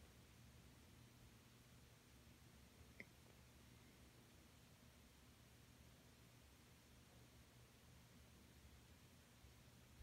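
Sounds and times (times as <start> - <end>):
ceiling fan and light hum: 0.0 - 10.0.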